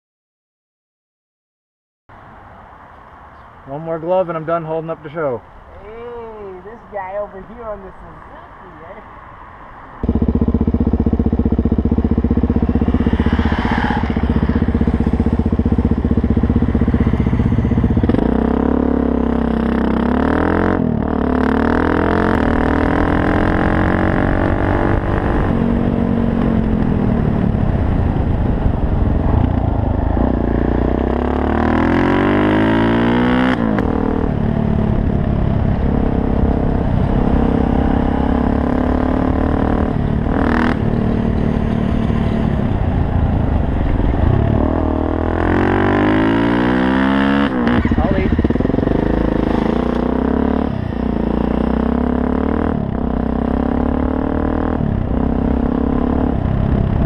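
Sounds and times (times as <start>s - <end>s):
motorcycle engine running: 10.0s - 57.0s.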